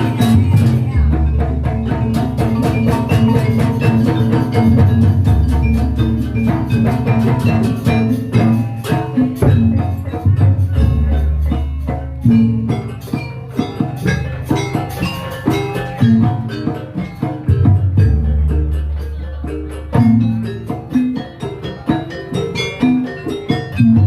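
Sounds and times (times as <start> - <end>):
metallophones and drums: 0.0 - 24.0.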